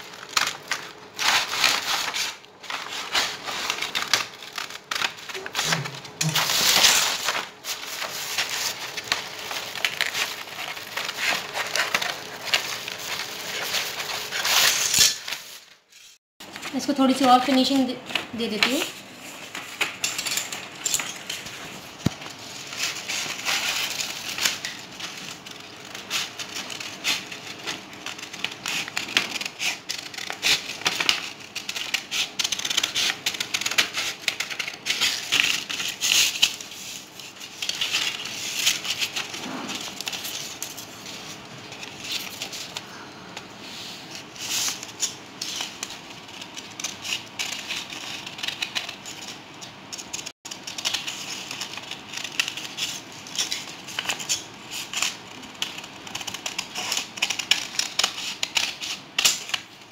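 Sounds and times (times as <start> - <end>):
paper rustling and crinkling: 0.0 - 59.9
scissors snipping paper: 0.1 - 15.5, 22.1 - 42.9, 44.2 - 59.9.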